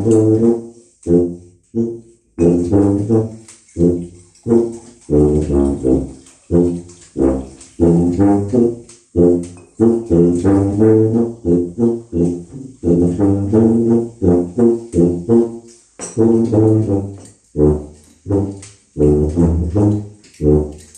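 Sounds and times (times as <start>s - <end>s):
solo tuba melody: 0.0s - 20.9s.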